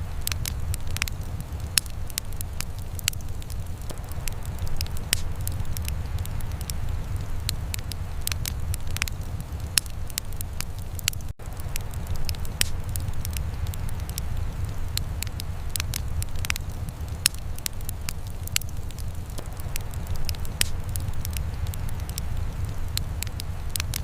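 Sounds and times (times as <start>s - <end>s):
low fire rumble: 0.0s - 24.0s
wood fire crackling and popping: 0.0s - 24.0s.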